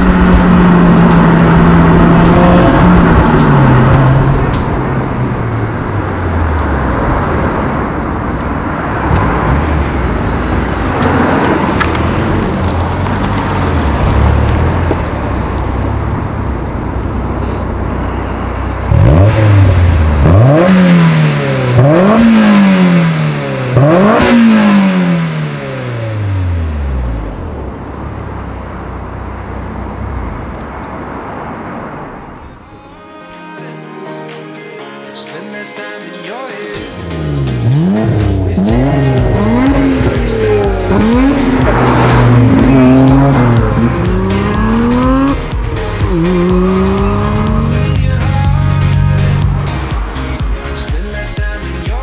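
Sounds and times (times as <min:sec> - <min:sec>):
car engine idling: 0:00.0 - 0:20.7, 0:25.4 - 0:32.8, 0:37.0 - 0:51.9
engine revving: 0:00.0 - 0:32.6, 0:37.0 - 0:51.2.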